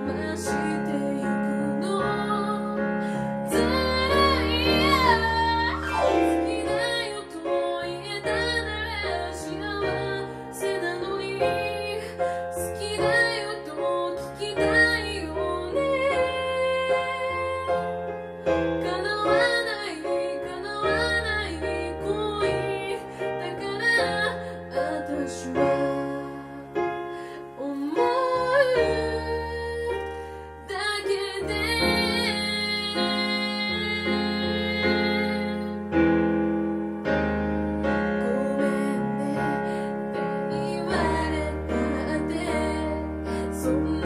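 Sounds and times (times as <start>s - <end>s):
woman singing a slow ballad: 0.0s - 37.0s, 37.8s - 44.0s
electric piano keyboard: 0.0s - 44.0s.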